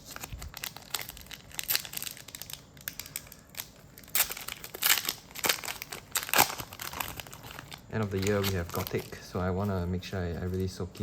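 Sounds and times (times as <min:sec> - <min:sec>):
wrapper tearing and crinkling: 0:00.0 - 0:09.3.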